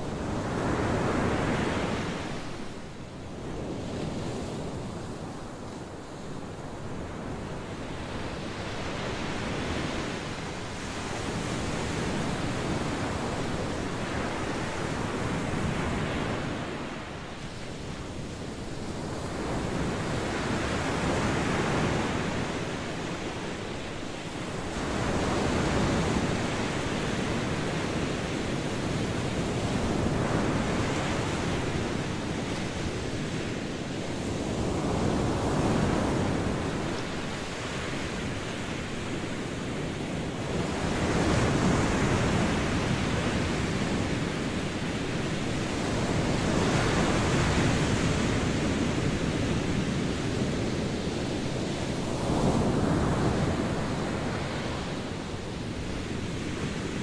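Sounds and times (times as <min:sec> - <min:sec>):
waves washing on shore: 0:00.0 - 0:57.0
wind: 0:00.0 - 0:57.0.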